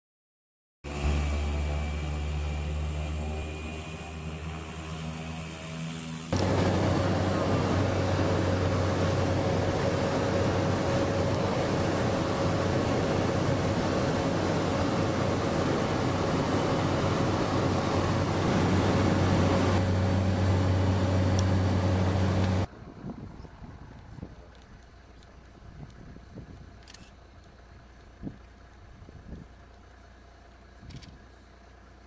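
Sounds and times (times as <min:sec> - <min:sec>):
light aircraft engine drone: 0:00.9 - 0:32.0
quiet outdoor ambience: 0:01.0 - 0:32.0.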